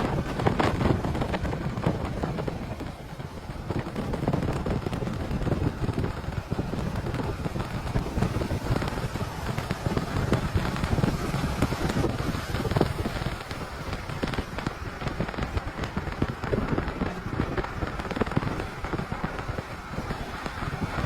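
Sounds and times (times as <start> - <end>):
rain pelting a car: 0.0 - 21.0
wind and road rumble: 0.0 - 21.0.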